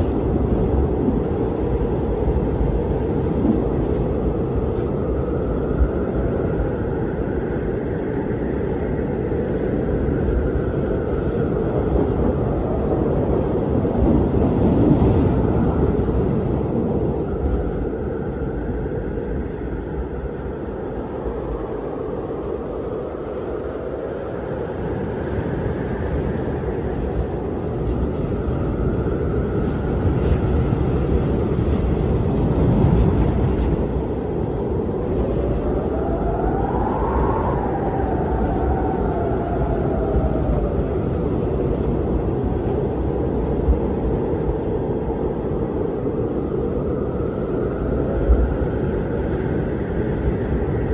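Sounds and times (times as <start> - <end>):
howling wind: 0.0 - 50.9.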